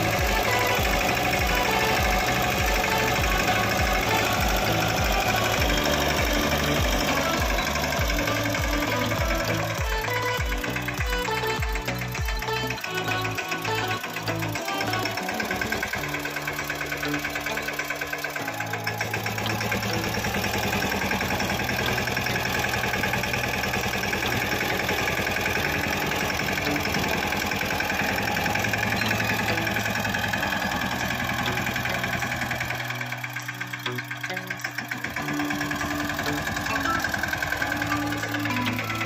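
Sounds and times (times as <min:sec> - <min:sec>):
diesel tractor engine chugging: 0:00.0 - 0:39.0.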